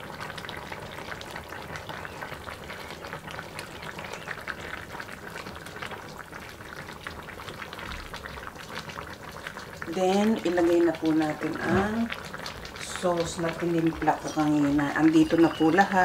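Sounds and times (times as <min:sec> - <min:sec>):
broth bubbling in a pot: 0:00.0 - 0:16.0
spatula turning ribs in liquid: 0:00.0 - 0:16.0.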